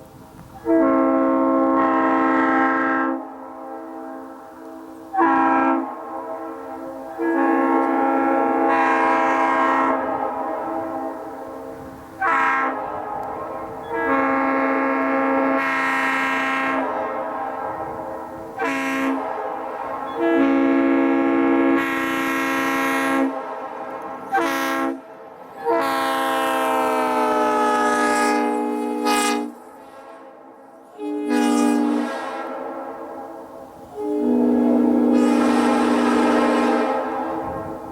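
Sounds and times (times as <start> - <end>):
locomotive air horn blasts: 0.5 - 37.9.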